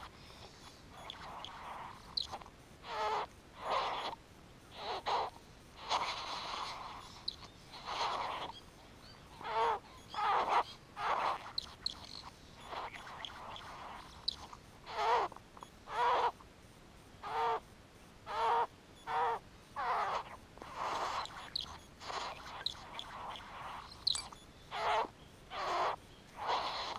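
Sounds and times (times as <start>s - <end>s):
bird giving harsh grating calls: 0.9s - 16.4s, 17.2s - 17.6s, 18.3s - 26.9s.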